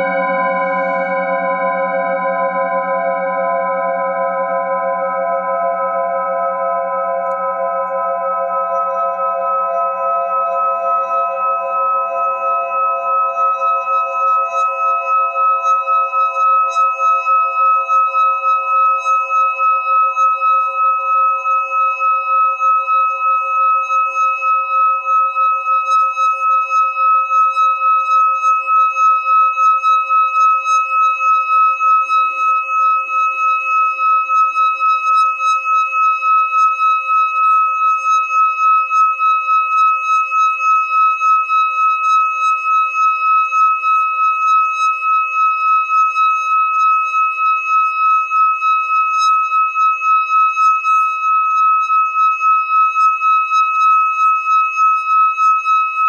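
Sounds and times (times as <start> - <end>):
singing bowl ringing: 0.0 - 56.0.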